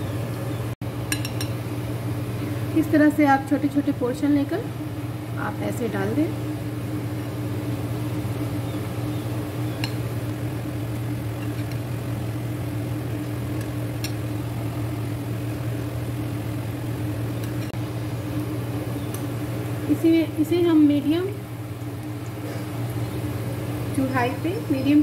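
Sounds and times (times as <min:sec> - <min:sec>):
low mechanical hum: 0:00.0 - 0:25.0
deep-frying sizzle in hot oil: 0:01.1 - 0:25.0.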